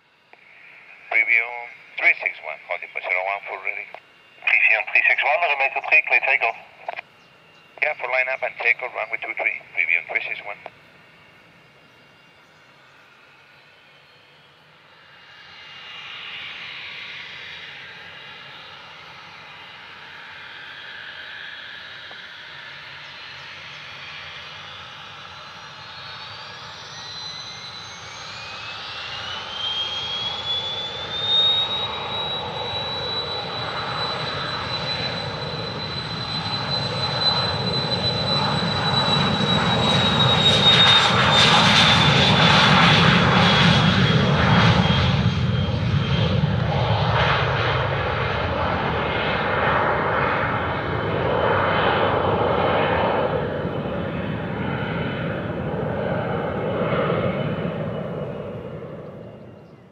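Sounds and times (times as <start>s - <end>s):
jet engine rumble: 0.0s - 59.9s
jet engine whine: 0.0s - 59.9s.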